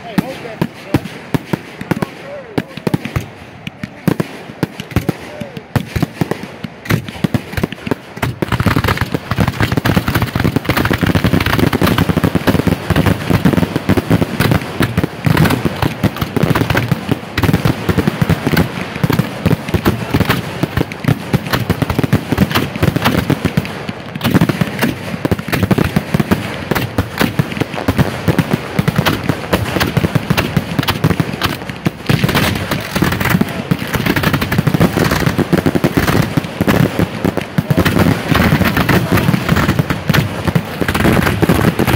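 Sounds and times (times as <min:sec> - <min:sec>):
fireworks launching and bursting: 0:00.0 - 0:41.9.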